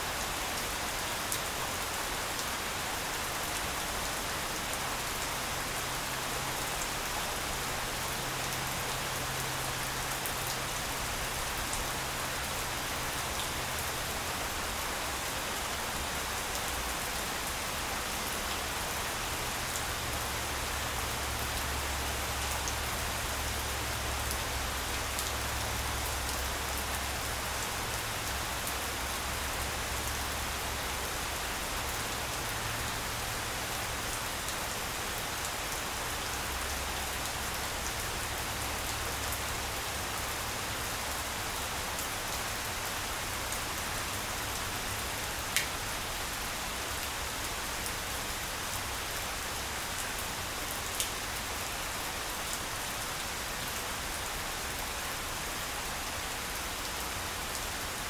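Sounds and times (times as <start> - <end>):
rain falling on grass: 0.0 - 58.0.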